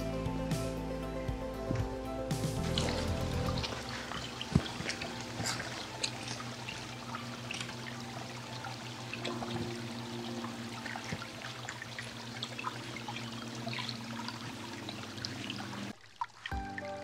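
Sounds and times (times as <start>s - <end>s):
stream trickling over stones: 2.6s - 17.0s.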